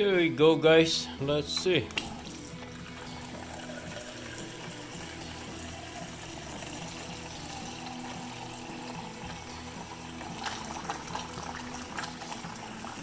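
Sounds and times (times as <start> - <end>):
water pouring into metal mug: 1.9 - 13.0.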